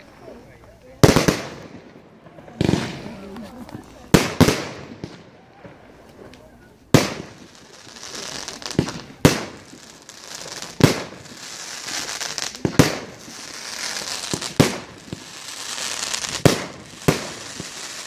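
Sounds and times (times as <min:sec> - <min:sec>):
firework bangs: 0:01.0 - 0:18.0.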